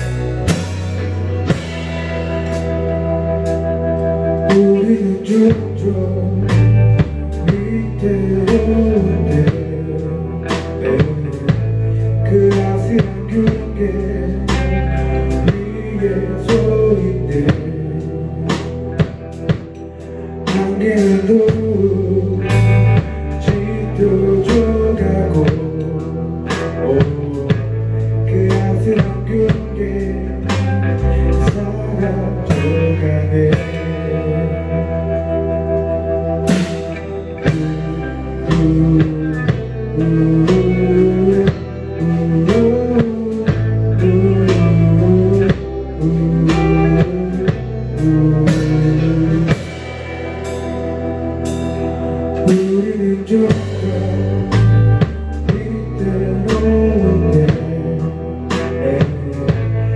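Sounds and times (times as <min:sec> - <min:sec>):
drum kit: 0:00.0 - 0:59.9
electric bass: 0:00.0 - 0:59.9
electric guitars: 0:00.0 - 0:59.9
person singing lead vocal: 0:00.0 - 0:59.9.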